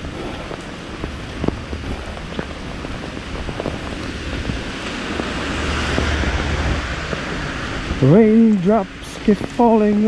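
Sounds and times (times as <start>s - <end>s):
car passing on wet road: 0.0s - 10.0s
heavy rain on wet street: 0.0s - 10.0s
raindrops ticking on camera: 0.0s - 10.0s
wind rumbling on microphone: 0.0s - 10.0s.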